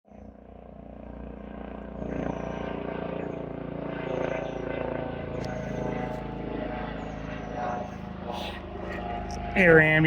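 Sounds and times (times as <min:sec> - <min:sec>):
helicopter engine and rotor drone: 0:00.1 - 0:10.0.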